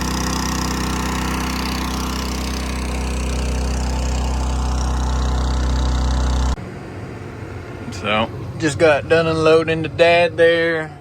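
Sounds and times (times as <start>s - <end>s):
large diesel engine running: 0.0s - 11.0s.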